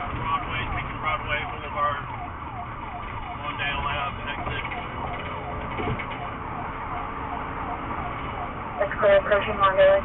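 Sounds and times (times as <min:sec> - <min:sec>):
police siren yelping: 0:00.0 - 0:09.1
engine and road rumble: 0:00.0 - 0:10.0.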